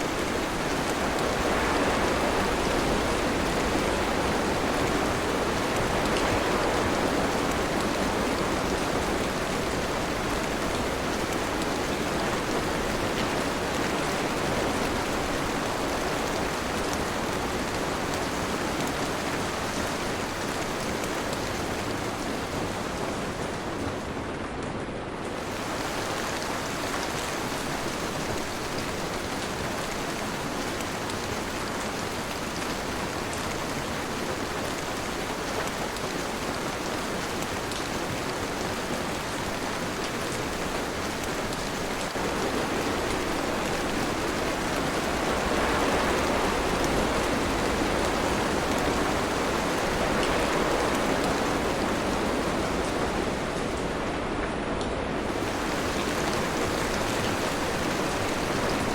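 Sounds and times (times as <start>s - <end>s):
dense rainfall hissing: 0.0s - 24.3s, 25.1s - 58.9s.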